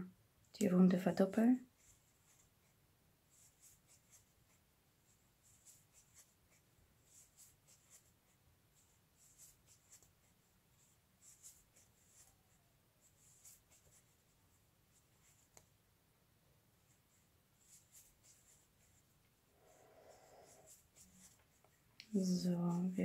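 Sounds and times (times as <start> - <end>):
crochet hook rustling yarn: 1.4 - 15.8, 16.8 - 23.0.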